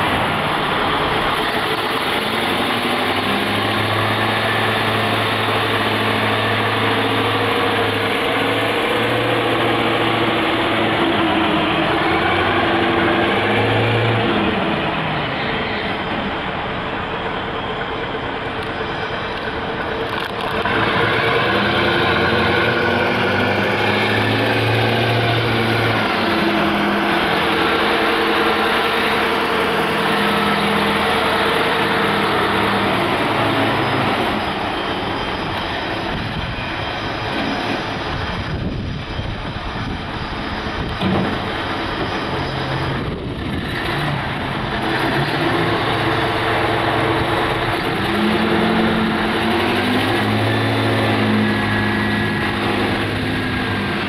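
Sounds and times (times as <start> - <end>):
diesel engine under throttle: 0.0 - 54.0.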